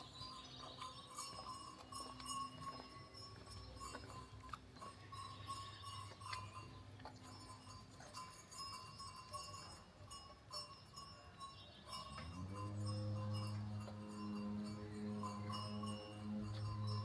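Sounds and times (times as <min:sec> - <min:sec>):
small metal bells clinking: 0:00.0 - 0:17.0.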